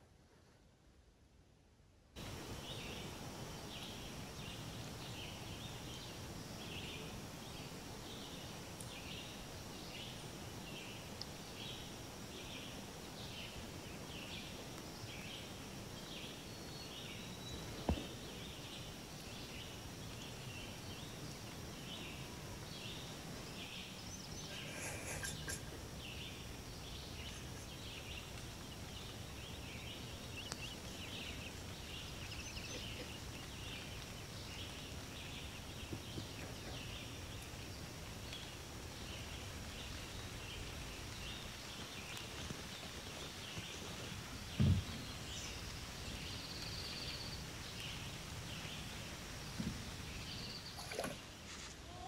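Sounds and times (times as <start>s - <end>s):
steady hiss: 2.2s - 52.0s.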